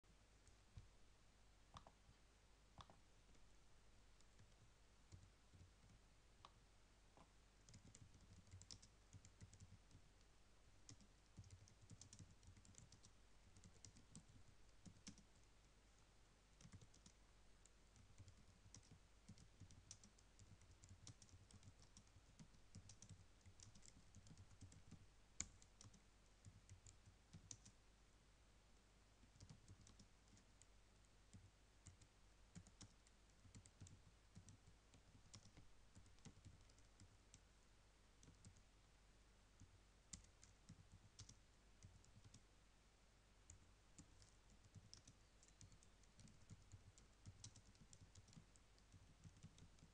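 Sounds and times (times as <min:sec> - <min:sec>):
faint keyboard typing: 0:00.4 - 0:00.9, 0:01.7 - 0:03.5, 0:04.2 - 0:06.6, 0:07.2 - 0:27.8, 0:29.2 - 0:38.7, 0:39.6 - 0:42.5, 0:43.4 - 0:49.9.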